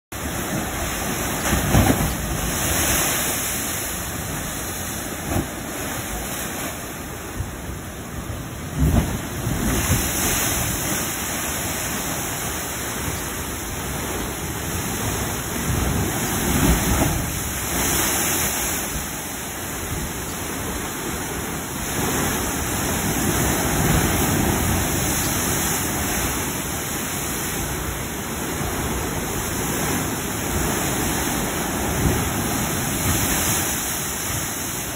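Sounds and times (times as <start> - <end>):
surf rushing against cliff: 0.2 - 34.9
waves thudding on rock: 0.2 - 34.9.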